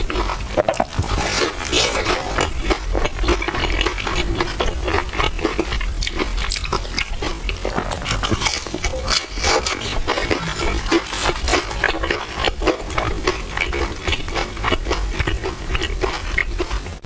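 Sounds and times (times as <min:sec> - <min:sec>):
wet chewing and slurping: 0:00.0 - 0:17.0.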